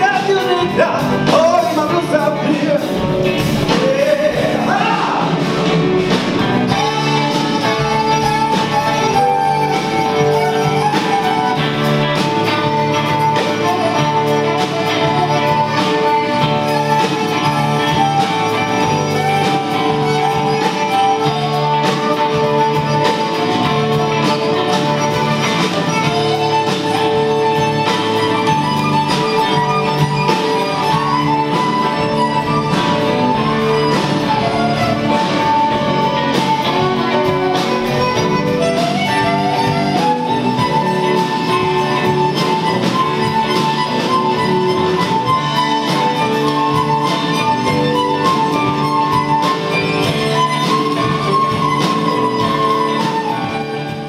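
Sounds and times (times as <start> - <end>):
acoustic guitars: 0.0 - 54.0
blues harmonica bending notes: 0.0 - 54.0.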